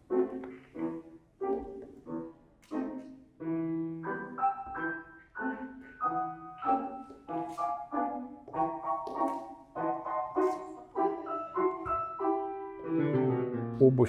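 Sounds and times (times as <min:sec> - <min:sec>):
classical piano chords: 0:00.0 - 0:14.0.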